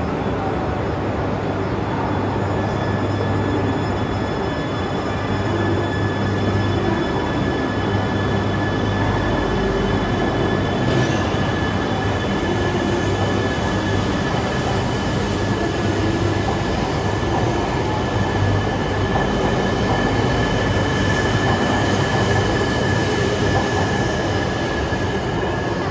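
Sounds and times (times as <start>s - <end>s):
high train whine: 0.0s - 25.9s
train wheels rumbling: 1.0s - 25.9s.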